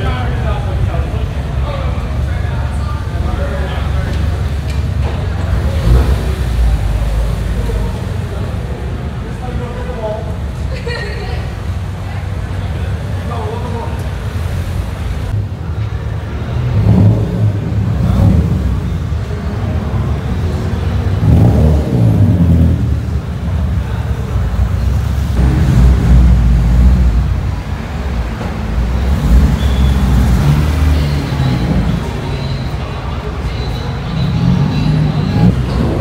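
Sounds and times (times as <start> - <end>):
car engines rumbling: 0.0 - 36.0.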